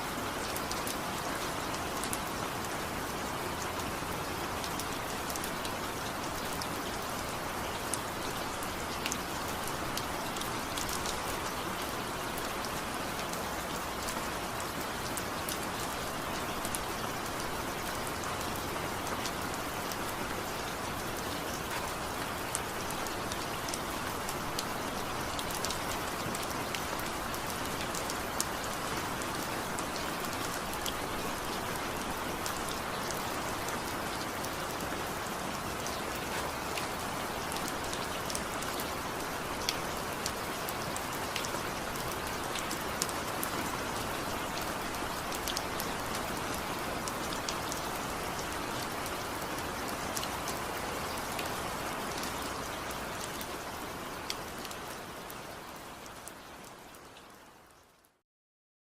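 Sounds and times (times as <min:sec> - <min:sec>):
steady rain falling: 0:00.0 - 0:58.2.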